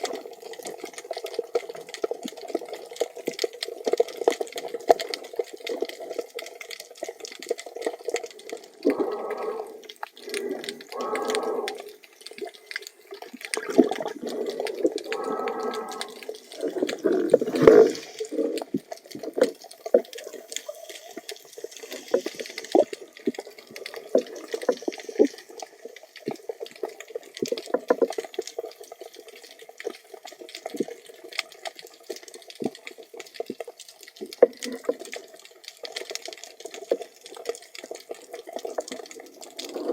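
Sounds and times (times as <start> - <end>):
muffled underwater water movement: 0.0 - 39.9
small underwater clicks: 0.0 - 39.9.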